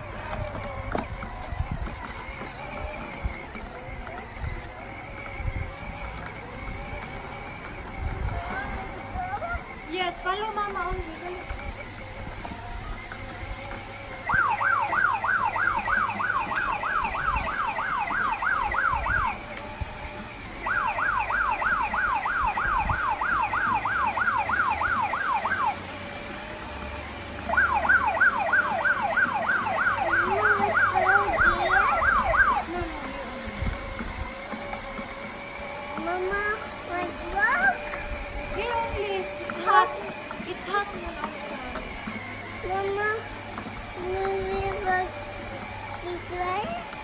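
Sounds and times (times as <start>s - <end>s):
electronic toy siren yelping: 0.0s - 43.4s.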